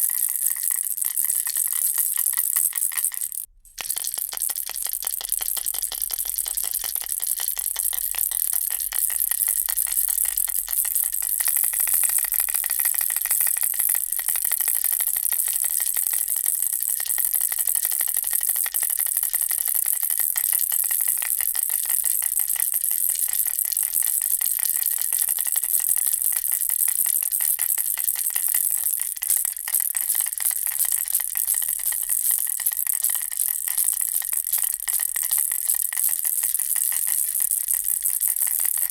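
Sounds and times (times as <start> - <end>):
baby rattle shaking: 0.0 - 38.9.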